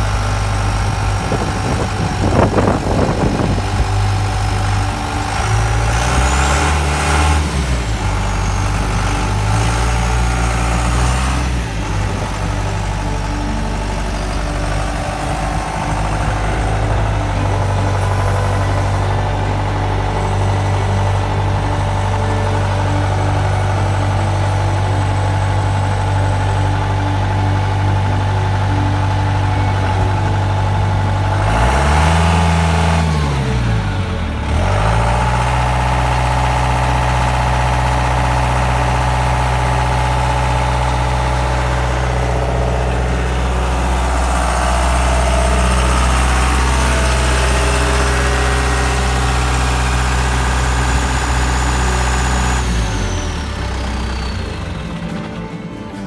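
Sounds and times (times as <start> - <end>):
tractor engine idling and revving: 0.0 - 56.0.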